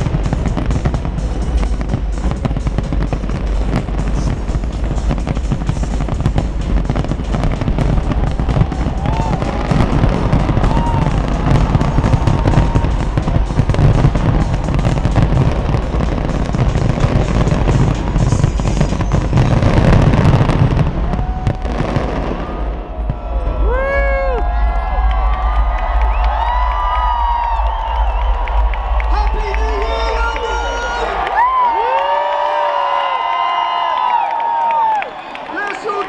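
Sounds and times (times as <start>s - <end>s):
crowd voices: 0.0s - 32.0s
music playing: 0.0s - 32.2s
low fireworks booms: 0.0s - 35.2s
fireworks crackling and popping: 0.0s - 36.0s.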